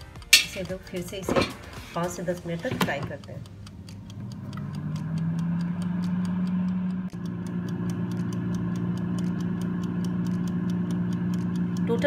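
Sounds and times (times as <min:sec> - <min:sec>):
air fryer fan humming: 0:00.0 - 0:12.0
mechanical timer ticking: 0:00.0 - 0:12.0.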